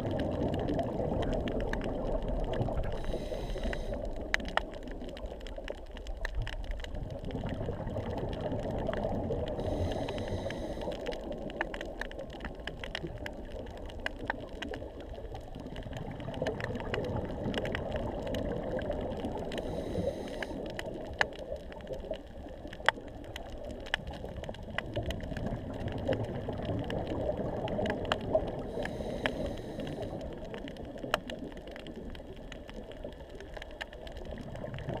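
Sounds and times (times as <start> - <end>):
low underwater rush: 0.0 - 35.0
sharp clicks and crackles: 0.0 - 35.0.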